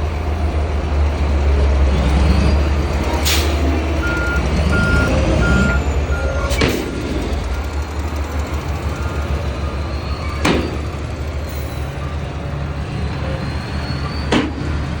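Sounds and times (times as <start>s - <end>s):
heavy diesel machinery droning: 0.0s - 15.0s.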